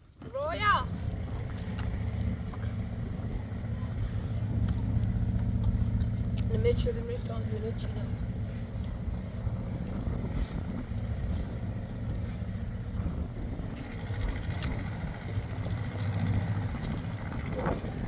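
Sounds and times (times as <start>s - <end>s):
motor rumbling: 0.0s - 18.0s.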